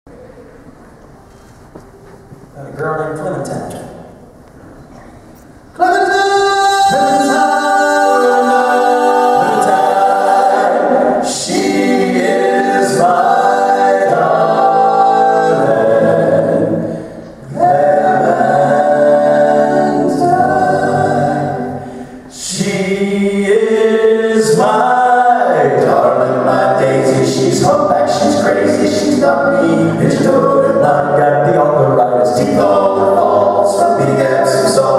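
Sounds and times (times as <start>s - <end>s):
male vocal quartet singing: 5.7s - 34.9s.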